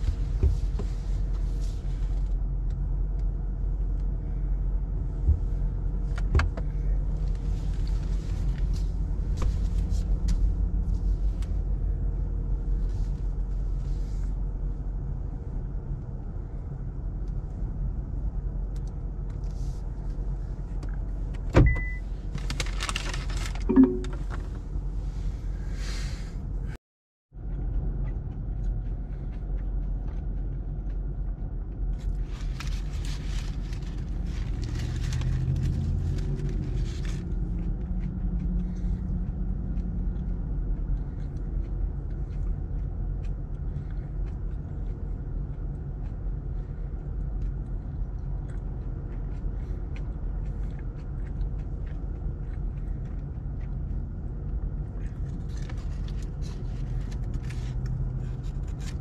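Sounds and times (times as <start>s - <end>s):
car engine and road rumble: 0.0s - 26.8s, 27.4s - 59.0s.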